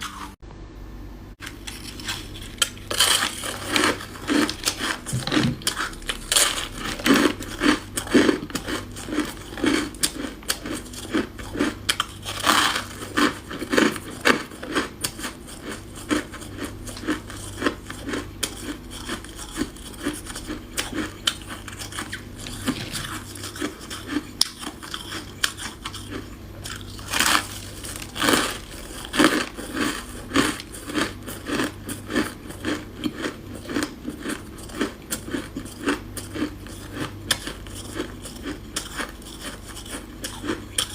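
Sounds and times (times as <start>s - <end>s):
crunching frost chewing: 1.4s - 40.9s.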